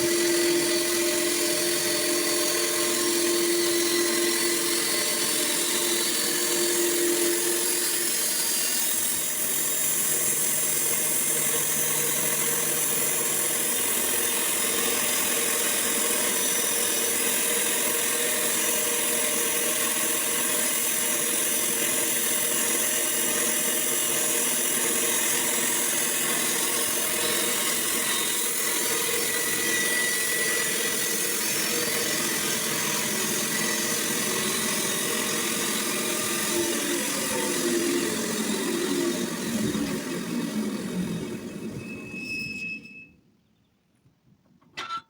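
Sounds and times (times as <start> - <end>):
sawmill machine drone: 0.0 - 43.0.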